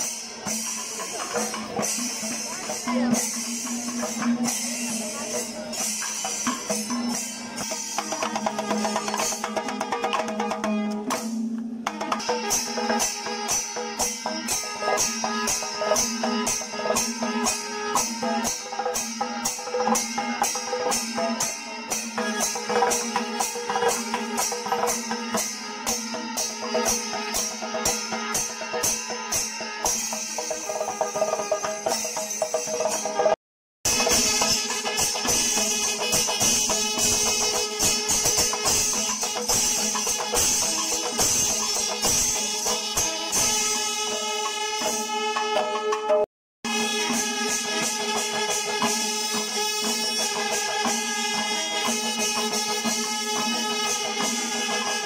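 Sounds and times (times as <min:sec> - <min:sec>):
metal cymbals clashing: 0:00.0 - 0:09.7, 0:10.7 - 0:45.8, 0:46.7 - 0:55.0
temple drums: 0:00.0 - 0:55.0.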